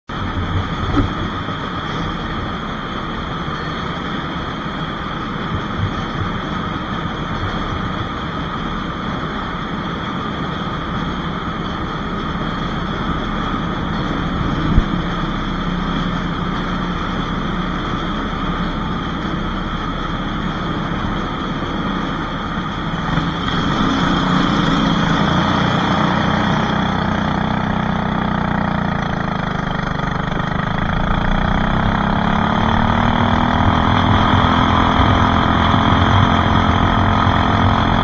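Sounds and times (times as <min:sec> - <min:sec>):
kart engine idling: 0:00.1 - 0:38.0.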